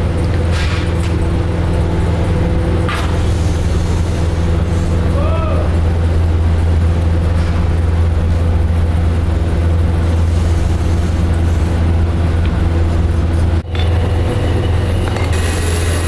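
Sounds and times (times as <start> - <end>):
heavy machinery humming: 0.0 - 16.0.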